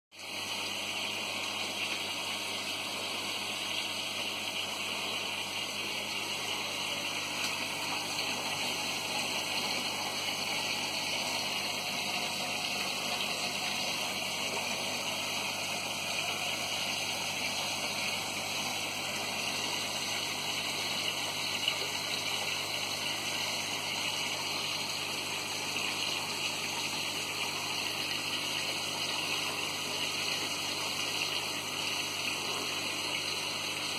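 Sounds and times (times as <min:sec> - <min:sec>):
aquarium filter water rushing: 0:00.2 - 0:33.9.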